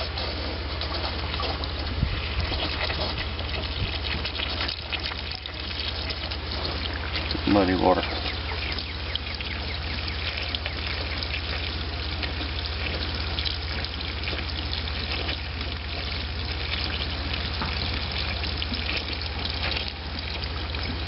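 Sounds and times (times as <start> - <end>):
steady low hum: 0.0 - 21.0
water running and splashing: 0.0 - 21.0.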